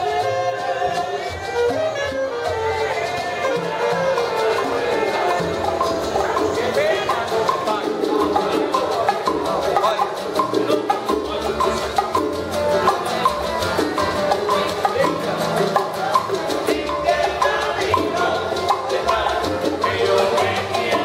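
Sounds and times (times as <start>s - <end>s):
acoustic guitars strumming: 0.0s - 21.0s
double bass: 0.0s - 21.0s
shaken hand percussion: 0.0s - 21.0s.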